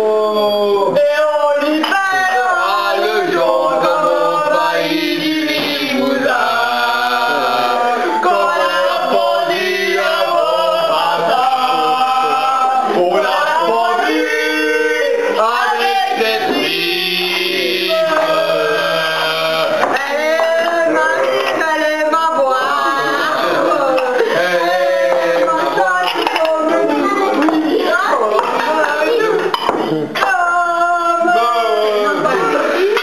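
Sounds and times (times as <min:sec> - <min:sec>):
group singing loudly: 0:00.0 - 0:33.0.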